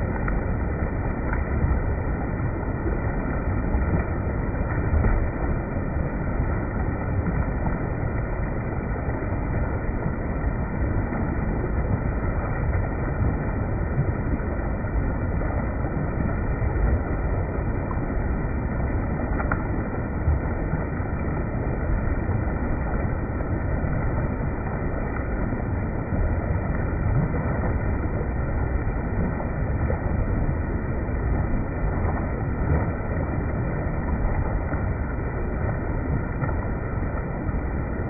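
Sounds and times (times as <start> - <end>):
spring water gurgling: 0.0 - 38.0.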